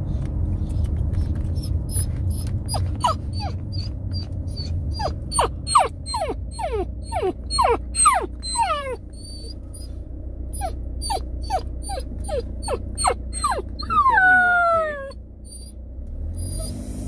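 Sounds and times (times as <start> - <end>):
car cabin rumble: 0.0 - 16.3
puppy whimpering: 0.7 - 15.8, 16.4 - 16.8.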